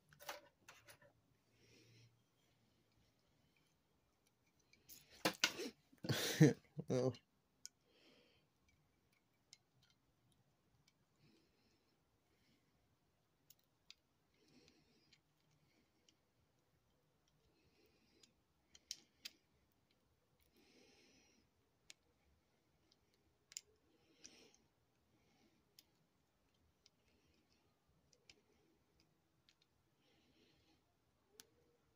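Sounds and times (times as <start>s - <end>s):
faint irregular clicks: 0.1s - 5.5s, 7.5s - 31.9s
soft breaths: 0.2s - 6.4s, 7.7s - 9.3s, 10.8s - 13.2s, 13.9s - 31.9s.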